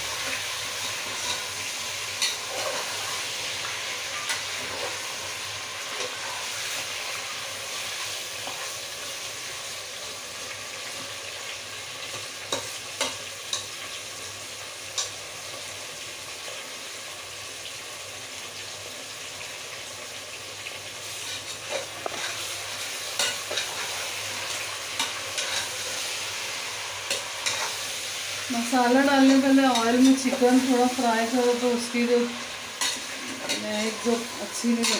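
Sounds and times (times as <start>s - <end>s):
chicken sizzling in oil: 0.0s - 34.9s.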